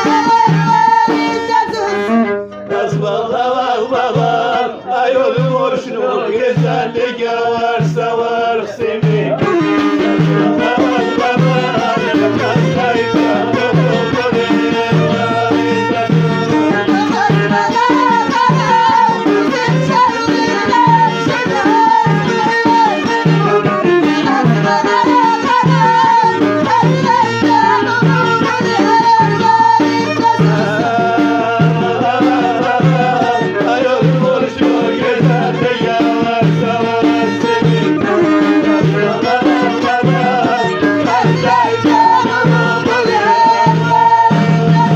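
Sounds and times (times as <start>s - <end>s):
hand-drum beat: 0.0s - 44.9s.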